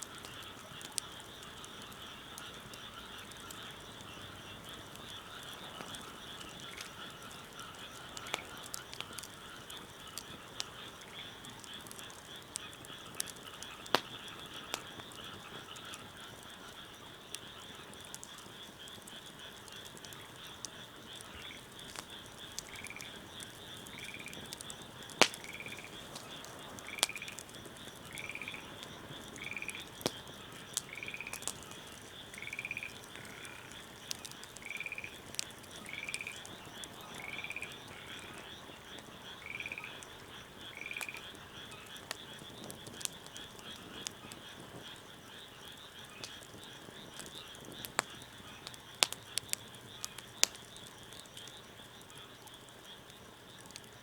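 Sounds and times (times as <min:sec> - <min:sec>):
chorus of frogs calling: 0:00.0 - 0:54.0
wood fire popping: 0:00.0 - 0:54.0.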